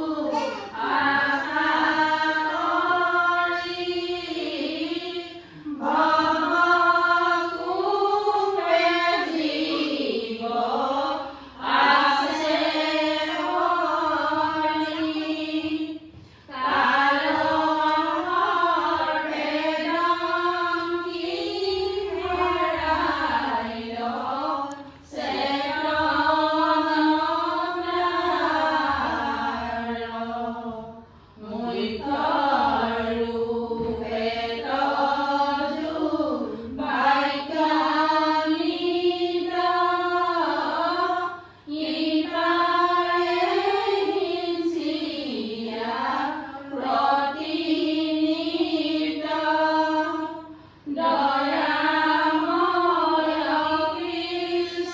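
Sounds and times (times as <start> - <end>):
women chanting a devotional song: 0.0 - 54.9.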